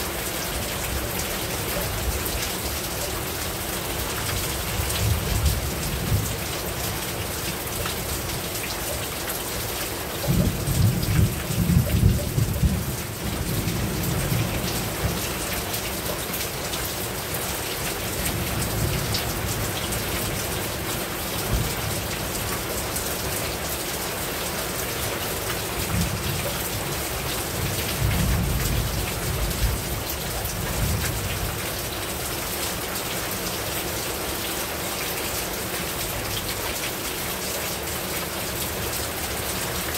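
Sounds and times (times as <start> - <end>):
heavy rain on a rooftop: 0.0 - 39.9.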